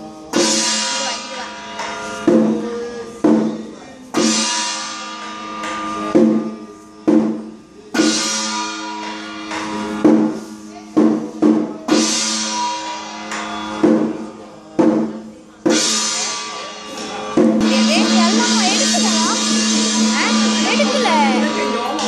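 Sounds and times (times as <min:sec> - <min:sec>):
ringing metal percussion: 0:00.0 - 0:22.0
drum strokes: 0:00.2 - 0:22.0.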